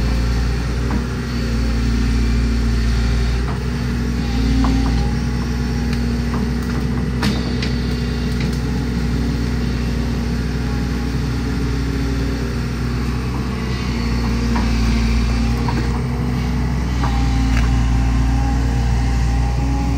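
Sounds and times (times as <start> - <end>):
excavator bucket working through brush: 0.0 - 19.9
excavator diesel engine running: 0.0 - 19.9.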